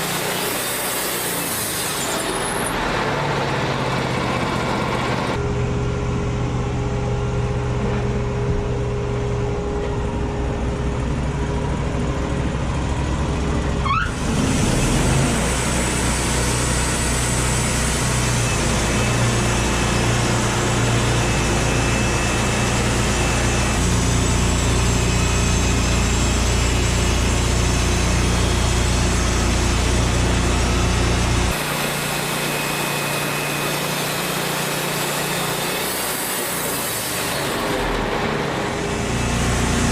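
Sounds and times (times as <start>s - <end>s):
heavy machinery engine running: 0.0s - 39.9s
rising whine: 1.9s - 33.8s, 37.4s - 39.9s.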